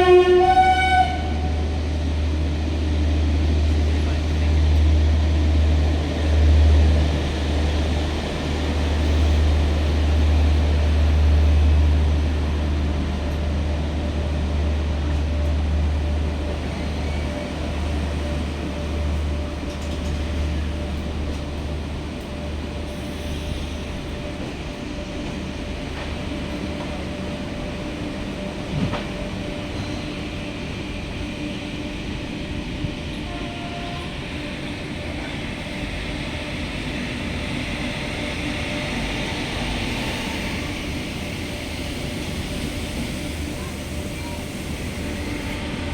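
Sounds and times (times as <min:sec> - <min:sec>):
passenger train running past: 0:00.0 - 0:45.9.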